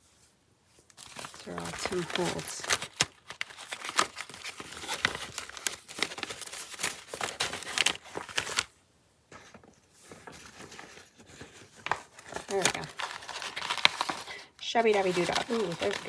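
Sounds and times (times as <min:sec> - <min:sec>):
paper and packaging crinkling: 0:00.7 - 0:16.0.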